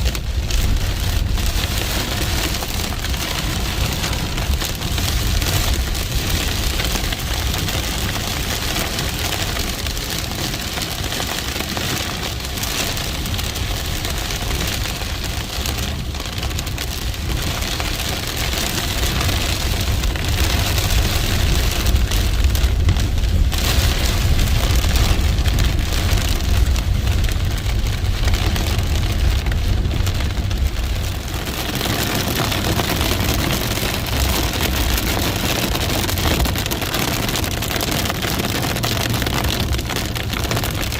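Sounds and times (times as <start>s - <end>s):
deep low rumble: 0.0s - 10.2s, 13.2s - 40.9s
heavy rain pouring: 0.0s - 40.9s.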